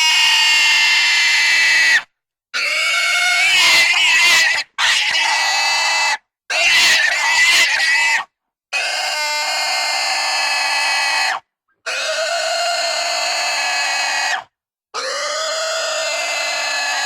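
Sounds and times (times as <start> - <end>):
pig squealing: 0.0 - 17.0.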